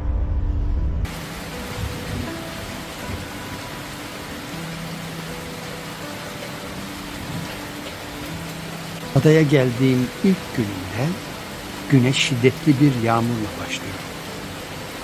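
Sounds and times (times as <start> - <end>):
faint background music: 1.1 - 15.0
heavy rain falling: 1.1 - 15.0.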